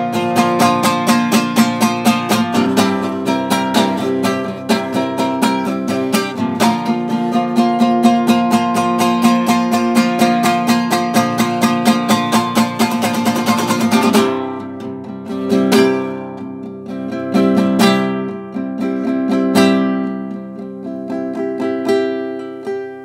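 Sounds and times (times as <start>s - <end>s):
classical guitar strumming: 0.0s - 23.0s.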